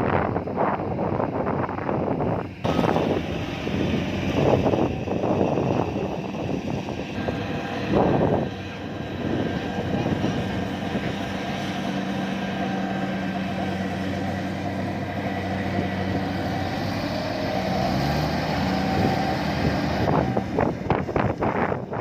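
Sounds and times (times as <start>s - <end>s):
diesel engine running under load: 0.0s - 22.0s
rough bursts of noise: 2.6s - 22.0s.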